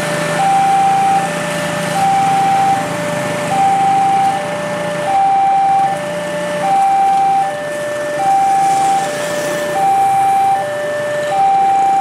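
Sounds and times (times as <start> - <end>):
two-tone level crossing alarm: 0.3 - 12.0.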